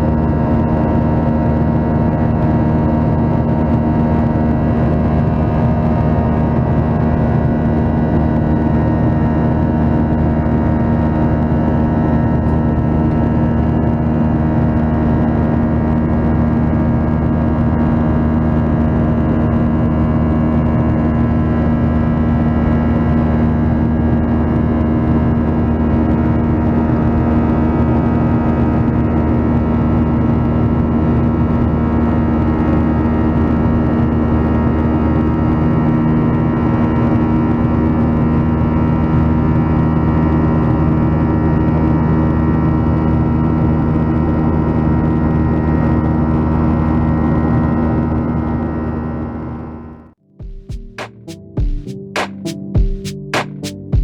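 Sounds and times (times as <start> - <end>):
jet engines heard from cabin: 0.0 - 50.0.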